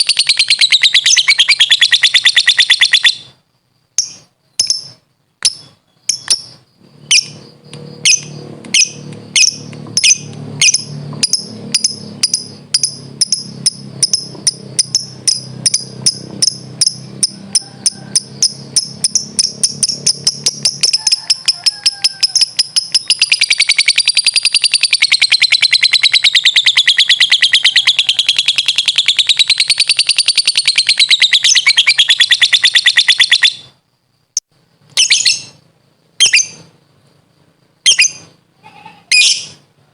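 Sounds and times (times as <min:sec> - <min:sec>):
lovebird chattering trill: 0:00.0 - 0:03.4, 0:04.0 - 0:33.7, 0:34.4 - 0:35.6, 0:36.2 - 0:36.7, 0:37.8 - 0:39.6.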